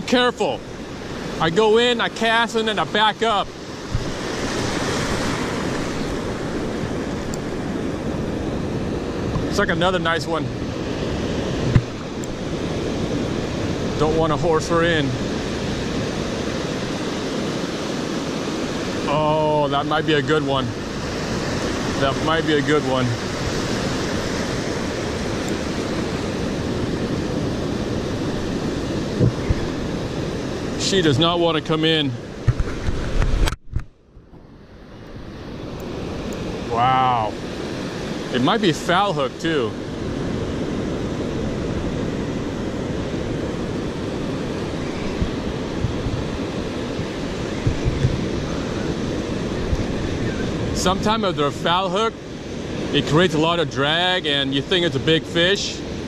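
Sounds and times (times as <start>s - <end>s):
surf washing on beach: 0.0s - 56.0s
wind on microphone: 2.9s - 19.6s, 20.2s - 39.0s, 39.7s - 53.2s.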